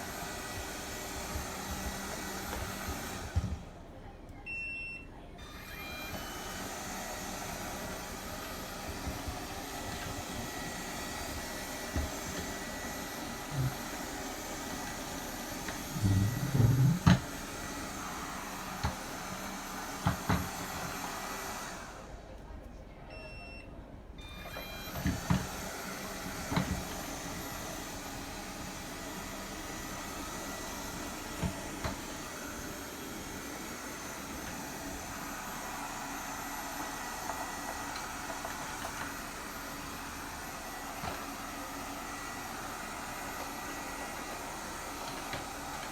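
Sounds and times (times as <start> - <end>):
robot vacuum cleaner whirring: 0.0 - 3.7, 5.4 - 22.2, 24.2 - 45.9.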